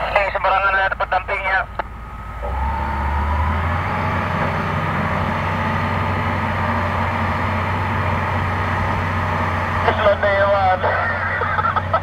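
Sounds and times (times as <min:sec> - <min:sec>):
faint rising whine: 0:00.0 - 0:10.9
excavator diesel engine drone: 0:00.0 - 0:12.0.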